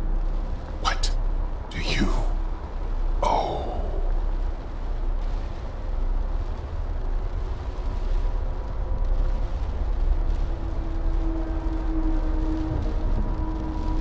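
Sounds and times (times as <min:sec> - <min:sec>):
deep steady rumble: 0:00.0 - 0:14.0.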